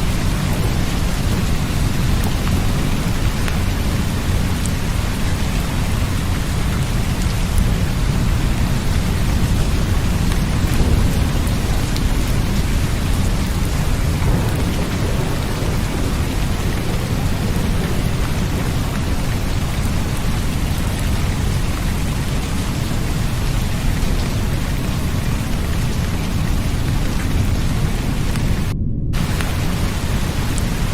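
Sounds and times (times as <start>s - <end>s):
deep rumble: 0.0s - 30.9s
steady rain: 0.0s - 30.9s.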